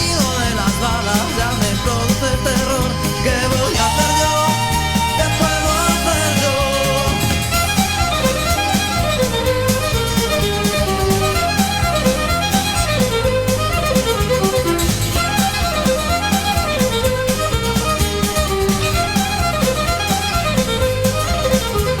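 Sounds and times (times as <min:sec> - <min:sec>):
bass line: 0:00.0 - 0:22.0
fiddle melody: 0:00.0 - 0:22.0
steady drum beat: 0:00.0 - 0:22.0.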